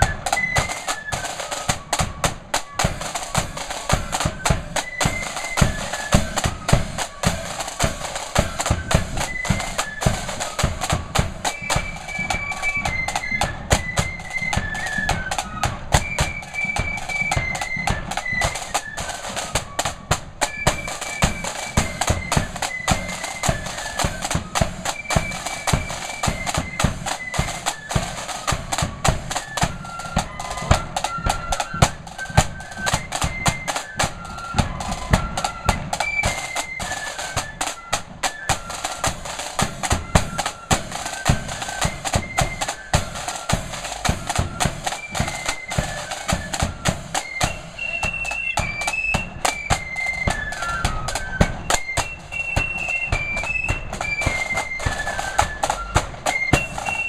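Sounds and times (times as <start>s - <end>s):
flutes playing a melody: 0.0s - 57.0s
snare drums: 0.0s - 57.0s.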